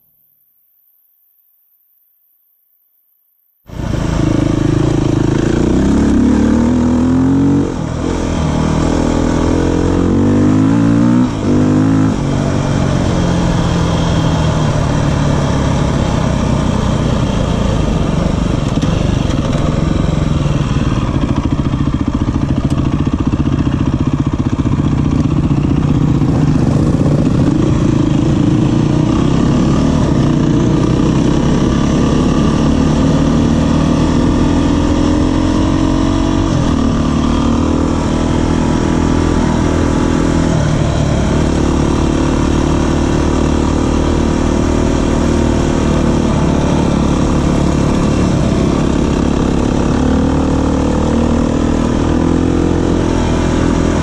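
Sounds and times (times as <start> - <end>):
motorcycle engine accelerating: 3.7 - 54.0.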